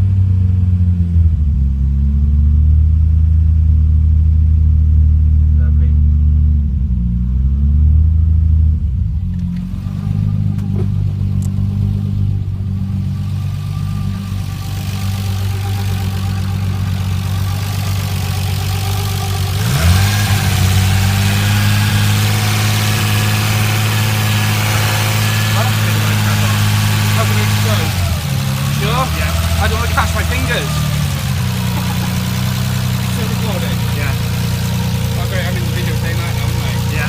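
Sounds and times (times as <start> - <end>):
car engine idling: 0.0 - 37.0
noisy engine lifters: 0.0 - 37.0.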